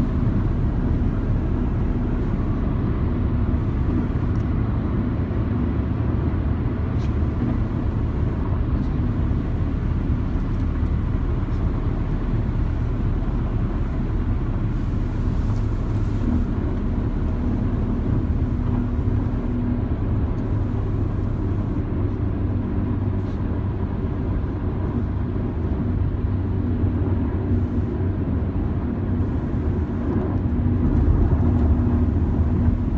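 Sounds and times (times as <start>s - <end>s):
road and engine rumble: 0.0s - 32.9s.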